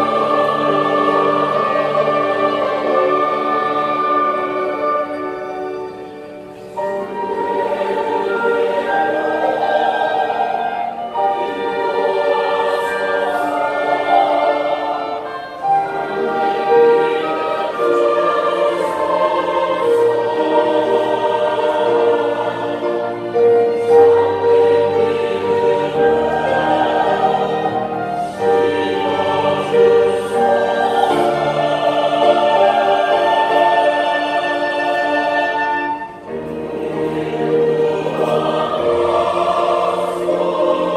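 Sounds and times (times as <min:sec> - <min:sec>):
clarinet: 0:00.0 - 0:39.3
flute: 0:00.0 - 0:39.3
choir singing: 0:00.0 - 0:40.9
violins: 0:00.0 - 0:40.9.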